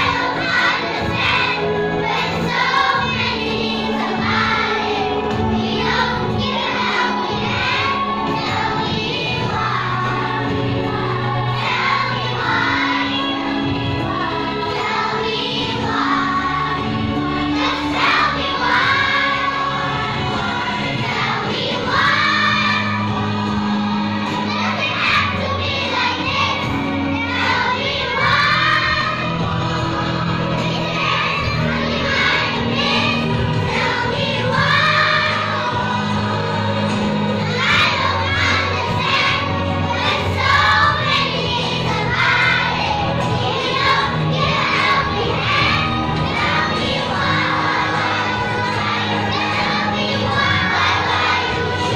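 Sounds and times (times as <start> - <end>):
children's choir singing: 0.0 - 51.9
musical accompaniment: 0.0 - 51.9.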